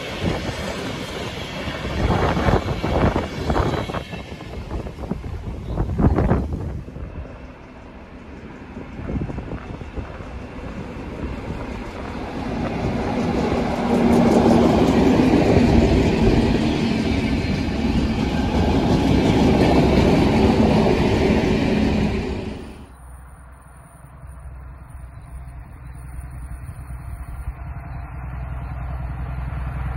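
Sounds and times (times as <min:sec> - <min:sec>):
diesel locomotive engine drone: 0:00.0 - 0:29.9
train wheels rumbling: 0:00.0 - 0:29.9.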